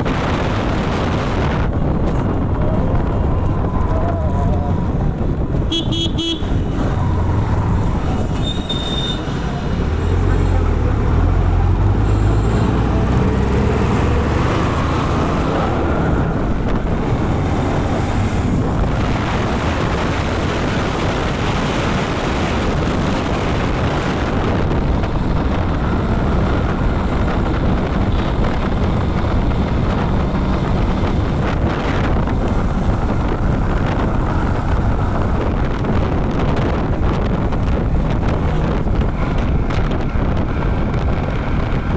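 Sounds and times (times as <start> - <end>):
motorbike engine and road noise: 0.0 - 41.9
wind rush over microphone: 0.0 - 41.9.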